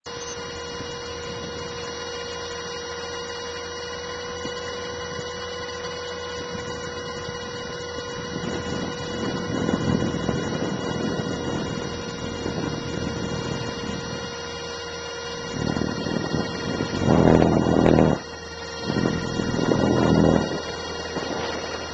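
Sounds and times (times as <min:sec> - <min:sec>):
electric motor whine: 0:00.0 - 0:21.9
spinning rotor rush: 0:00.1 - 0:21.9.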